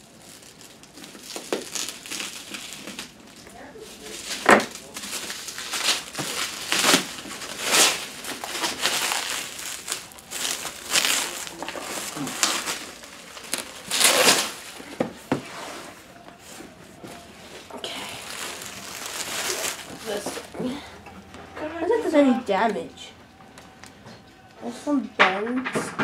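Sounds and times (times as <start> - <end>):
bubble wrap crinkling: 0.0 - 24.5.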